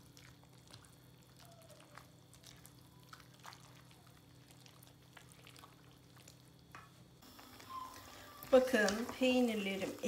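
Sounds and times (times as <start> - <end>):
spatula stirring wet pasta: 0.0 - 10.0.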